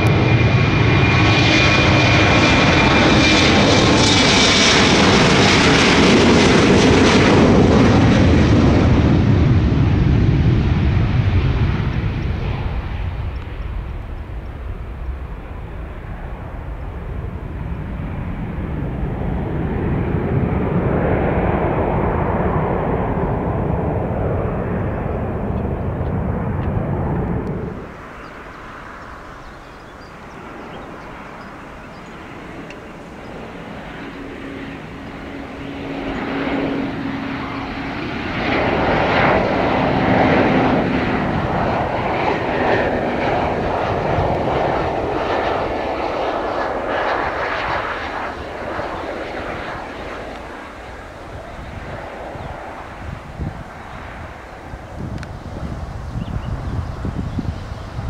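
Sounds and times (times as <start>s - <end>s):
jet engines at take-off power: 0.0s - 58.0s
jet on landing approach: 0.0s - 58.0s.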